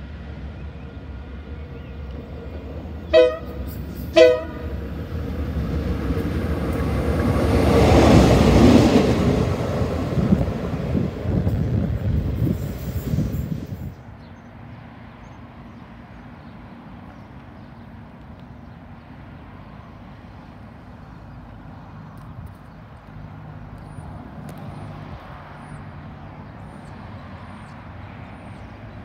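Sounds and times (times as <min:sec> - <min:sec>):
distant diesel locomotive engine: 0:00.0 - 0:29.0.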